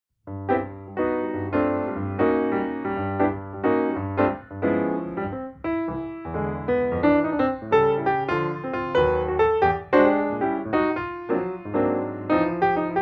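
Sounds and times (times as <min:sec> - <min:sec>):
piano chords: 0:00.3 - 0:13.0.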